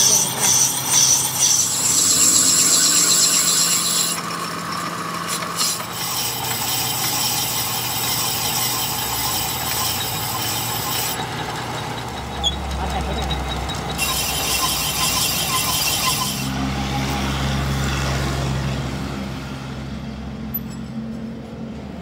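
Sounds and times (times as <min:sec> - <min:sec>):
lathe cutting tool hissing: 0:00.0 - 0:18.8
metal lathe motor hum: 0:00.0 - 0:19.4.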